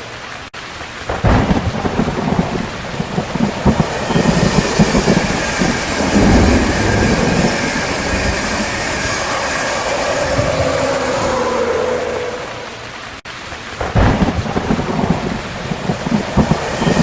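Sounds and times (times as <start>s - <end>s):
rain falling: 0.0s - 17.0s
thunder rumbling: 0.6s - 17.0s.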